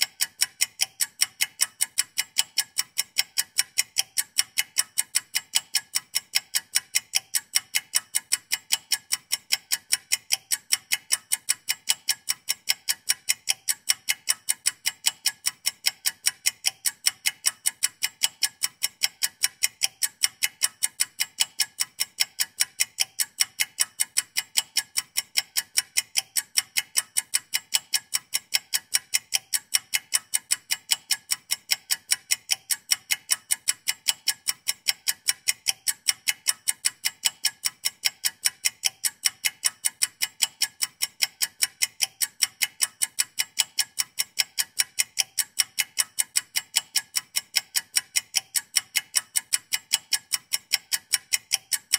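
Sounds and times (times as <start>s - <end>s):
clock ticking: 0.0s - 51.9s.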